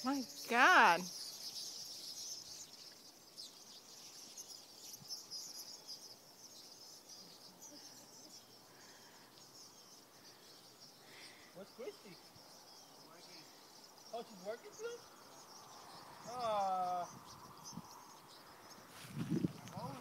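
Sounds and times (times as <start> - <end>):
flock of birds chirping: 0.0 - 20.0.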